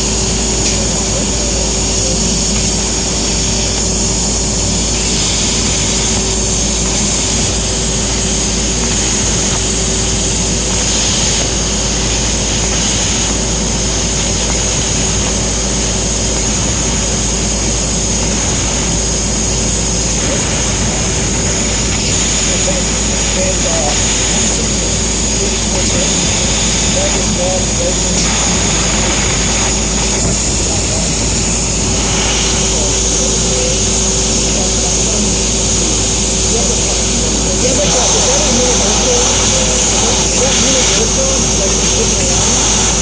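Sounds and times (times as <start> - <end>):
laser cutter blowing with whine: 0.0 - 43.0.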